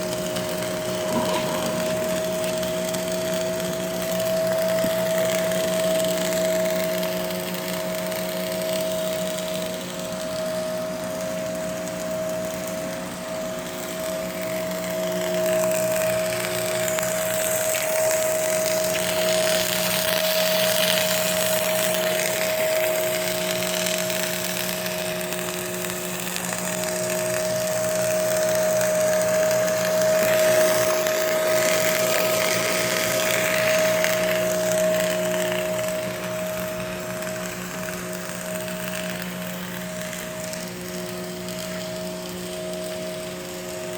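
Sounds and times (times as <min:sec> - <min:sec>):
welding arc crackling: 0:00.0 - 0:43.9
welding machine hum: 0:00.0 - 0:43.9.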